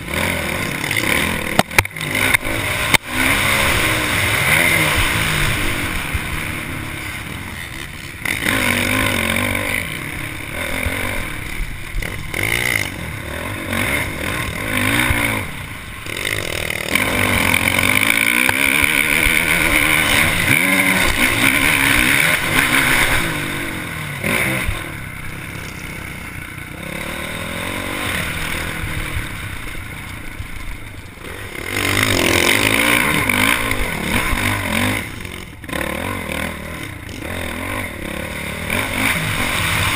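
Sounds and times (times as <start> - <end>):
motocross bike engine revving: 0.0 - 39.9
wind: 0.0 - 39.9.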